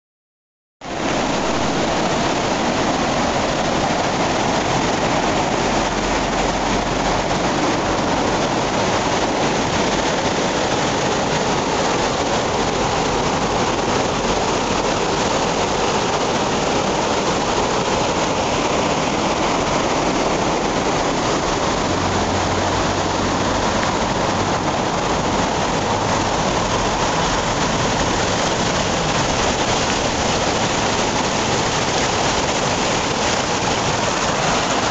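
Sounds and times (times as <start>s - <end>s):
rushing flood water: 0.8s - 34.9s.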